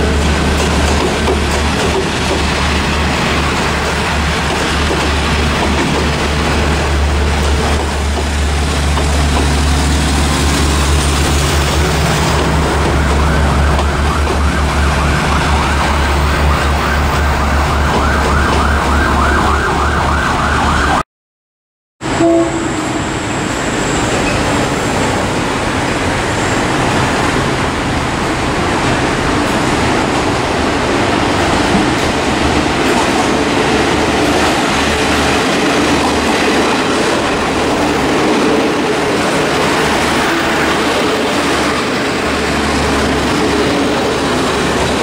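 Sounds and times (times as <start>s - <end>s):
diesel railcar passing: 0.0s - 21.0s, 22.0s - 45.0s.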